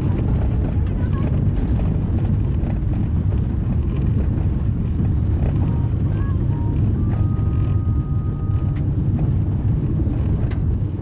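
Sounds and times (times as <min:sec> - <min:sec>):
car engine running: 0:00.0 - 0:11.0
tyres rumbling on gravel: 0:00.0 - 0:11.0.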